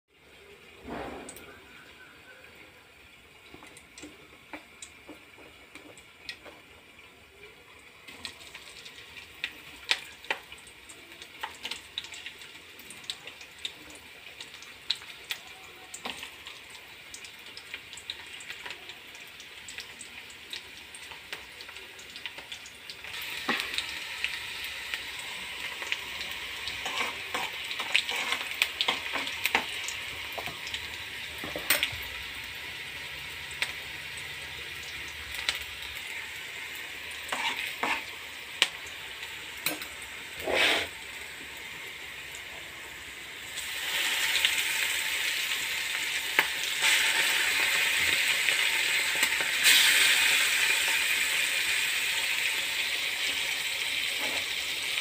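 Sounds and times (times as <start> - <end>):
chillies and onion sizzling in oil: 0.1 - 55.0.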